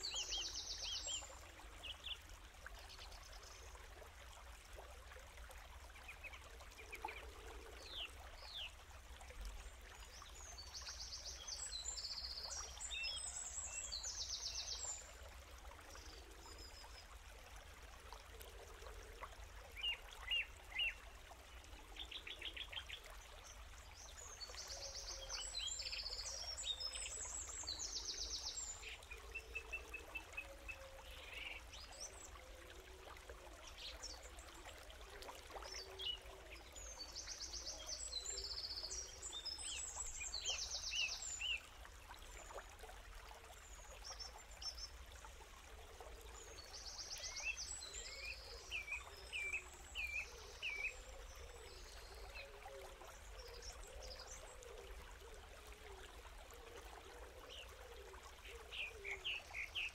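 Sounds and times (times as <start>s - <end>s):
trickling stream water: 0.0s - 59.9s.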